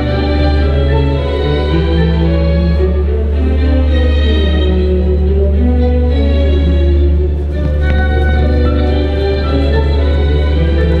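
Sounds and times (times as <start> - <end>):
instrumental music with sustained notes: 0.0 - 11.0.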